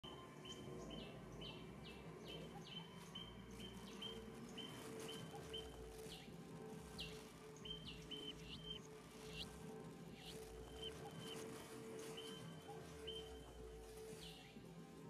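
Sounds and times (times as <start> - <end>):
faint bird chirps: 0.0 - 15.0
low steady hum: 0.0 - 15.0.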